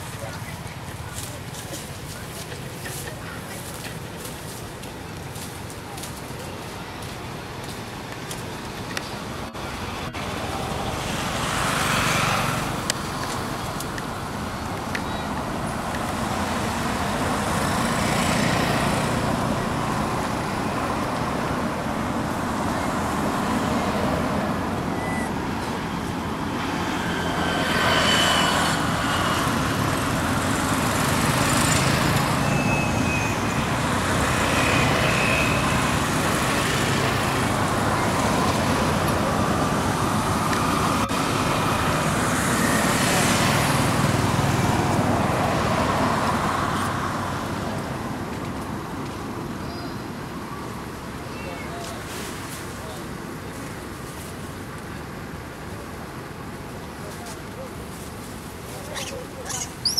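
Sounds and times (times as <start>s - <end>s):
road traffic noise: 0.0s - 59.9s
vehicles passing: 0.0s - 59.9s.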